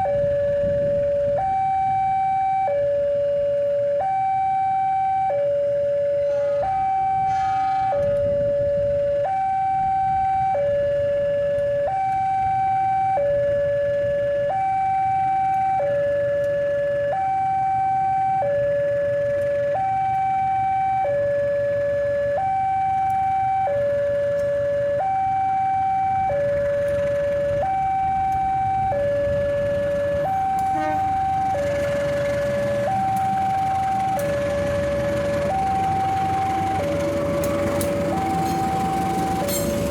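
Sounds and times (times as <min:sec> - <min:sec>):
level-crossing two-tone alarm: 0:00.0 - 0:39.9.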